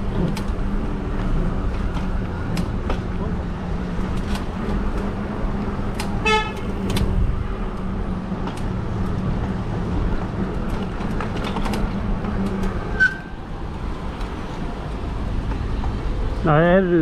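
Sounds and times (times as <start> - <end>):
e-bike motor hum: 0.0 - 16.8
traffic rumble: 0.0 - 17.0.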